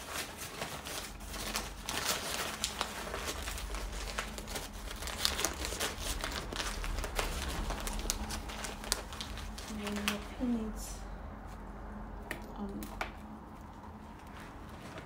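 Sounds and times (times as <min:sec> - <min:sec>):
fabric rustling and crinkling: 0:00.0 - 0:11.7, 0:13.1 - 0:15.0.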